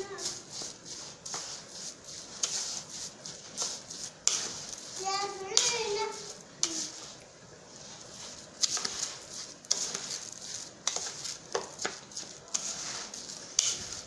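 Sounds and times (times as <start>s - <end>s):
wet stirring in a bowl: 0.0s - 14.0s.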